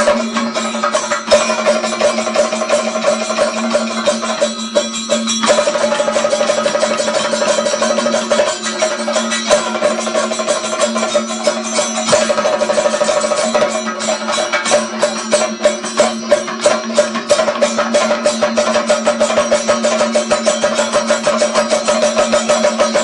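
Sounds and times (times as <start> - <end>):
fast percussion drumming: 0.0 - 23.0
steady ringing tone: 0.0 - 23.0.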